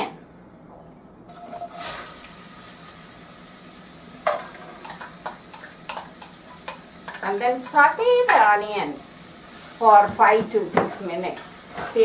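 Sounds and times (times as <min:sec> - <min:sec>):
onion sizzling in hot oil: 0:01.3 - 0:12.0.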